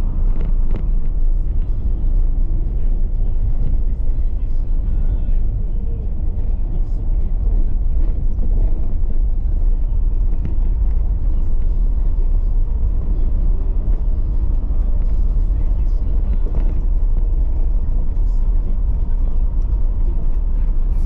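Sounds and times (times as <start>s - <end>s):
car rumbling on dirt track: 0.0s - 21.0s.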